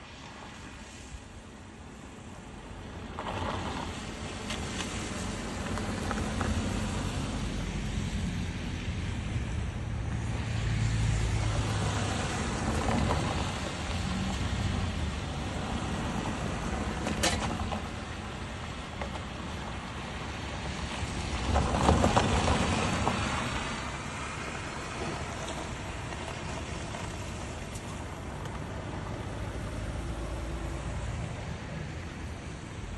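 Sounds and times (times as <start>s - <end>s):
rain on wet road rushing: 0.0s - 1.2s, 1.9s - 9.6s, 10.2s - 32.9s
low engine hum: 2.4s - 32.9s.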